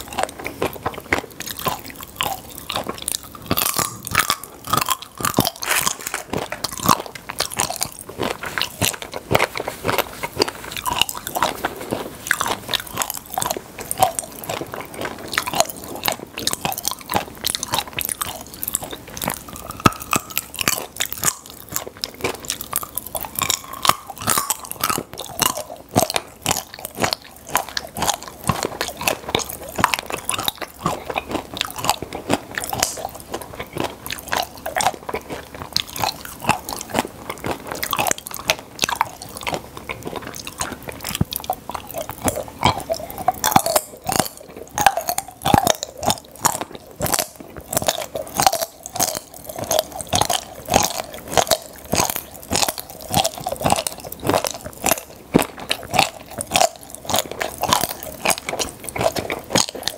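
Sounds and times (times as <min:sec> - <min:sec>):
chewing crunchy popping candy: 0:00.0 - 0:59.9.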